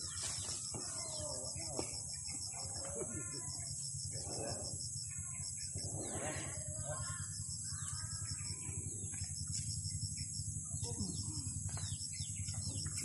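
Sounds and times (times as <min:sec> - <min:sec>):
birds calling: 0:00.0 - 0:13.0
constant low rumble: 0:00.0 - 0:13.0
pulsing insect chorus: 0:00.0 - 0:13.0
faint voices of people: 0:00.1 - 0:09.2, 0:10.6 - 0:11.9.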